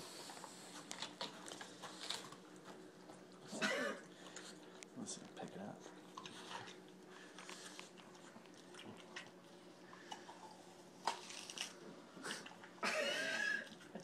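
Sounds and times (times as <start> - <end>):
dog chewing watermelon: 0.1 - 12.8.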